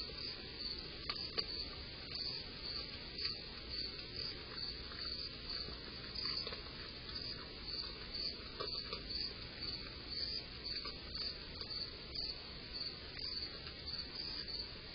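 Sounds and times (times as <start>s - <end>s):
crickets chirping: 0.0s - 14.9s.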